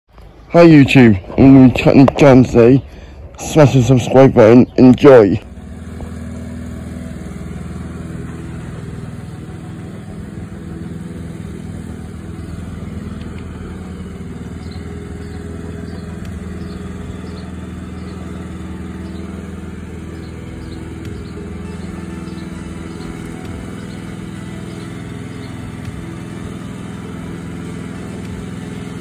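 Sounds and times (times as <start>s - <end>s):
lawn mower running: 0.2s - 29.0s.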